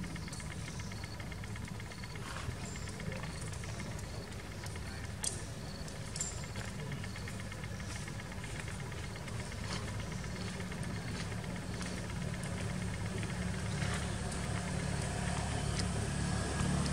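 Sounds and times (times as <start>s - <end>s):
low engine rumble: 0.0s - 16.9s.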